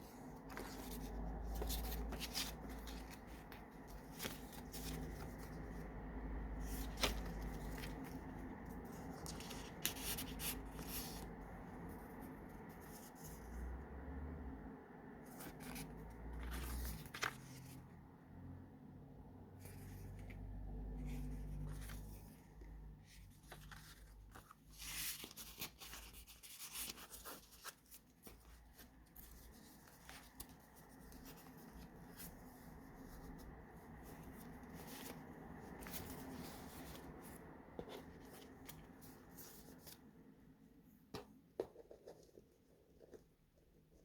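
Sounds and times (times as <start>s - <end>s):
paper pages turning and rustling: 0.0s - 13.6s, 15.2s - 18.0s, 19.6s - 40.3s.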